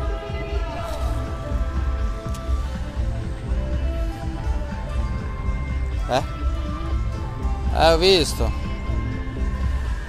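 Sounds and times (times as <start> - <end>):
music with pulsing bass beat: 0.0 - 10.0.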